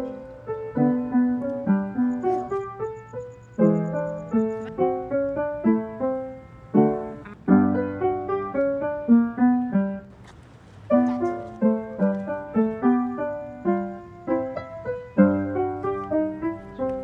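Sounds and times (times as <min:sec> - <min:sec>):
solo piano melody: 0:00.0 - 0:17.0.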